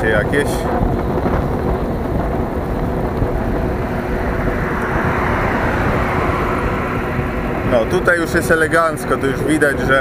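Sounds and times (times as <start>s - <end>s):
wind rumbling on microphone: 0.0s - 10.0s
car tyres passing on road: 0.6s - 10.0s.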